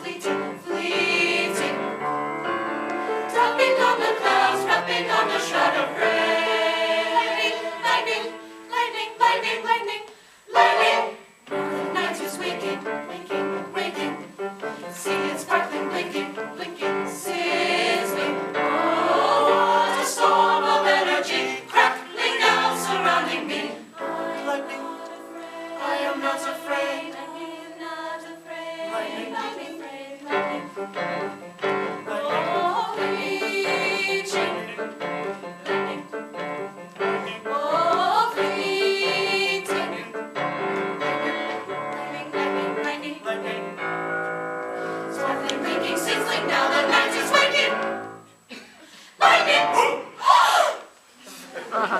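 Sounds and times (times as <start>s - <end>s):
choir singing sustained chords: 0.0s - 50.8s.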